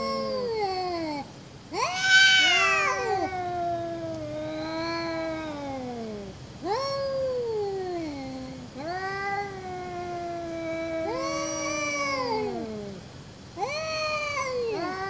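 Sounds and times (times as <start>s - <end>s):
cats caterwauling: 0.0s - 15.0s.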